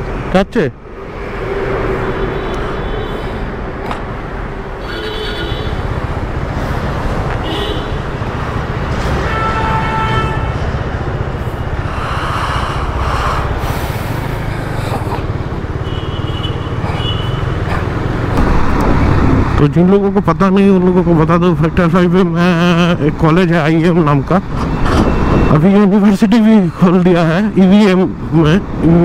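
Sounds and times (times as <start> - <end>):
road and wind noise: 0.0 - 29.0.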